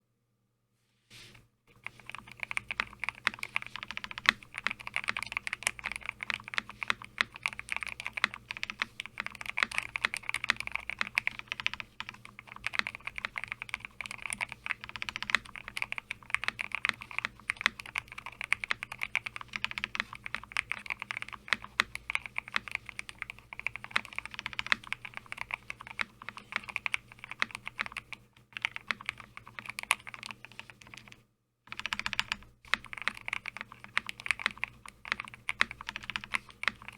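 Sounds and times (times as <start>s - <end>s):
mechanical keyboard typing: 1.7s - 36.9s.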